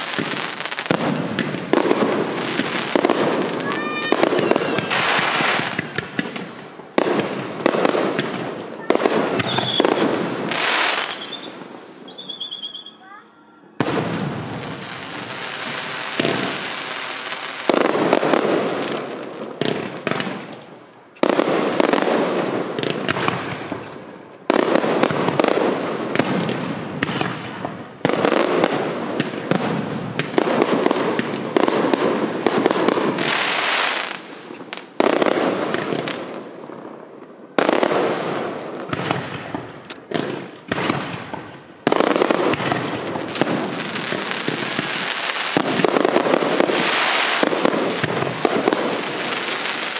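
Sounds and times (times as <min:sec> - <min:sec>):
fireworks bangs and crackle: 0:00.0 - 0:49.9.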